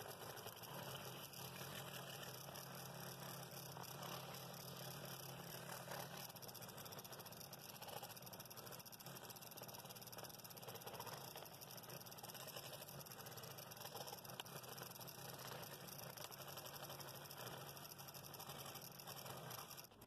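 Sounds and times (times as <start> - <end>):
scroll saw cutting wood: 0.0 - 9.9, 10.6 - 20.0.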